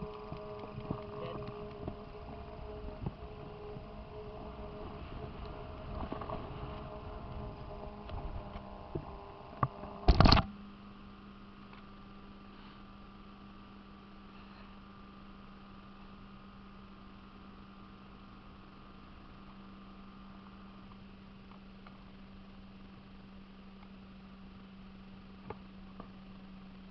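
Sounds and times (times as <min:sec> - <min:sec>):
electrical hum: 0:00.0 - 0:26.9.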